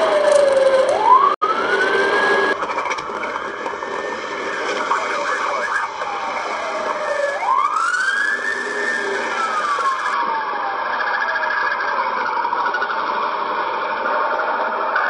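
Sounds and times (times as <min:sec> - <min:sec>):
police car siren wailing: 0:00.0 - 0:15.0.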